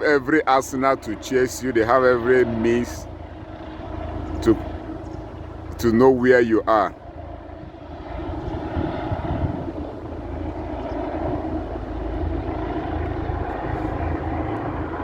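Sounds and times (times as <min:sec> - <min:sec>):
helicopter rotor and turbine drone: 0:00.0 - 0:15.0.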